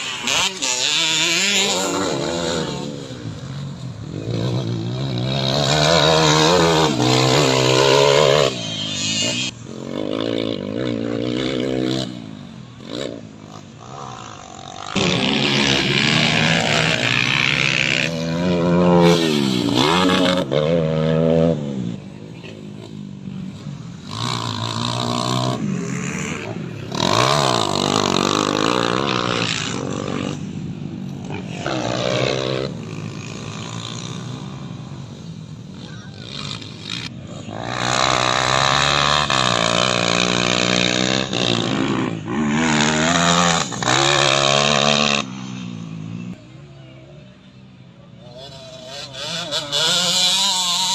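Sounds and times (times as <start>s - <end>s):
dirt bike engine revving: 0.0s - 46.6s, 48.2s - 50.9s.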